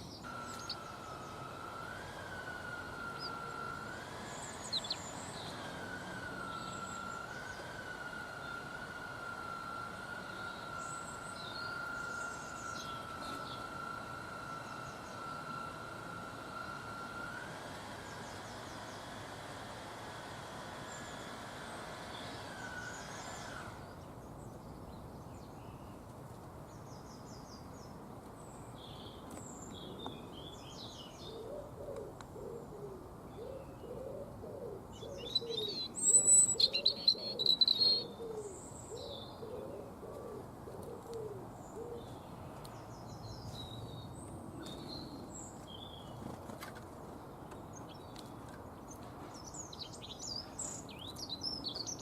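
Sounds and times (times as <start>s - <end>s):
small birds chirping and trilling: 0.0s - 52.0s.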